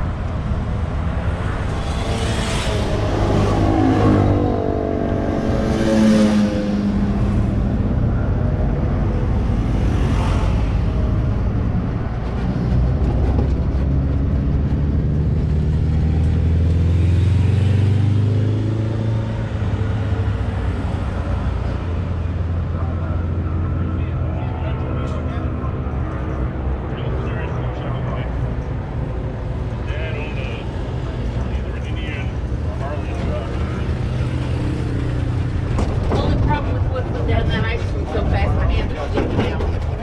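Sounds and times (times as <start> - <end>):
low engine rumble: 0.0 - 17.3, 19.3 - 40.0
engine revving: 0.0 - 39.8.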